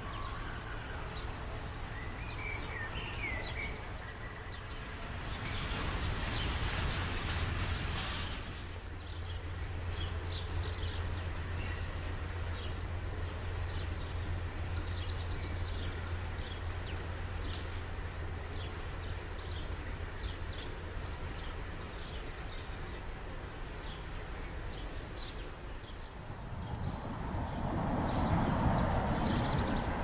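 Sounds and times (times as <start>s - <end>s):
distant freight train rumble: 0.0s - 30.0s
birds chirping: 5.4s - 30.0s.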